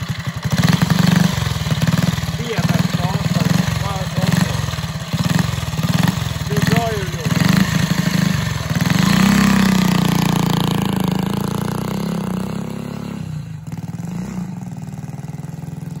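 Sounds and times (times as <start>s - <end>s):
moped engine revving: 0.0s - 16.0s.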